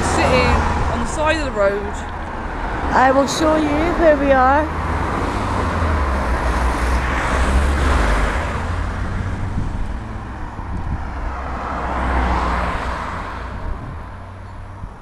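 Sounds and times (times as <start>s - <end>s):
vehicles passing close by: 0.0s - 15.0s.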